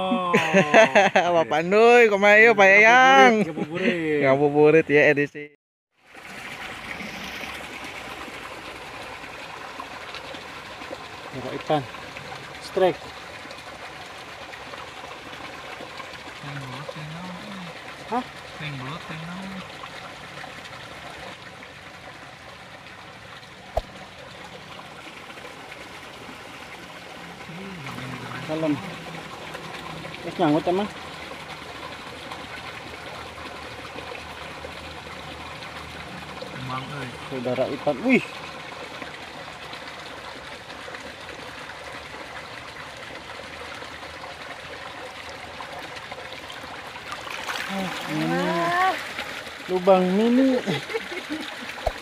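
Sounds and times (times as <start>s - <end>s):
stream water trickling: 0.0s - 5.2s, 5.9s - 52.0s.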